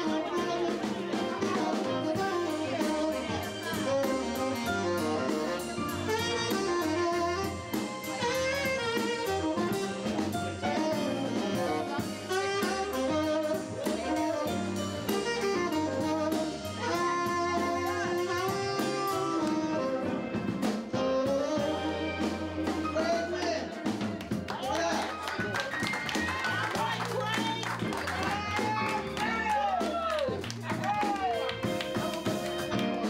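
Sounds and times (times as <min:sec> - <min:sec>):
drum kit keeping time: 0:00.0 - 0:33.0
live band: 0:00.0 - 0:33.0
saxophone jazz solo: 0:00.0 - 0:33.0.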